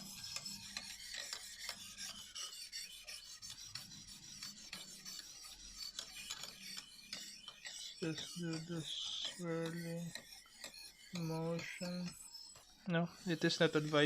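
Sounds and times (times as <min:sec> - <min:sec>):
knife scraping on sharpening hone: 0:00.0 - 0:14.0.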